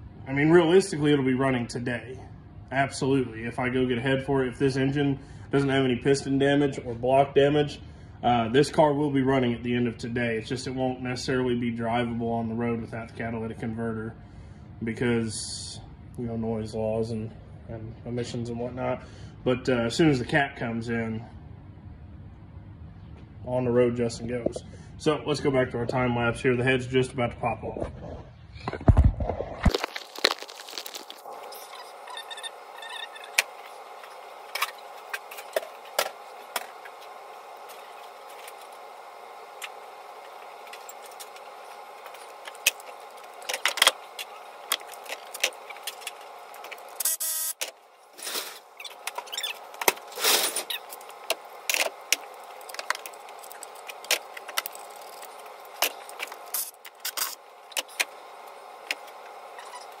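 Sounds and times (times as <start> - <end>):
steady hum: 0.0 - 60.0.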